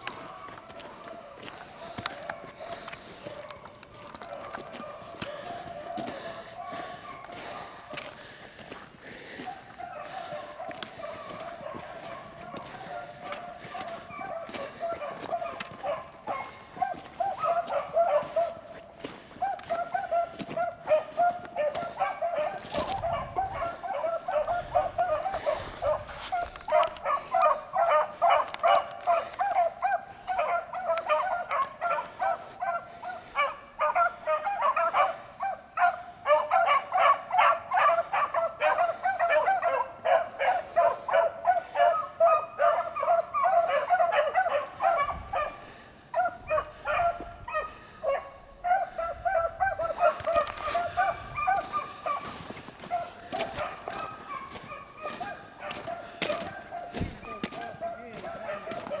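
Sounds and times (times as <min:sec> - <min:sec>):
pack of hounds baying: 0:00.0 - 0:59.0.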